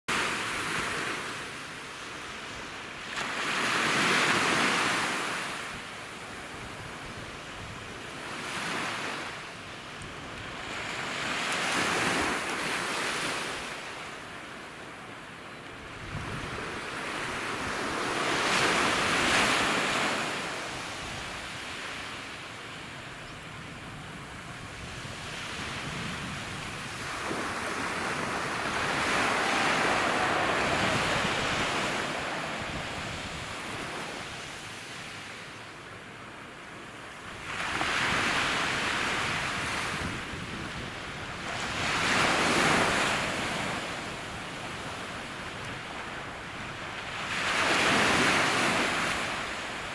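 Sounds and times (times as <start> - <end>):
waves breaking on sand beach: 0.1 - 49.9.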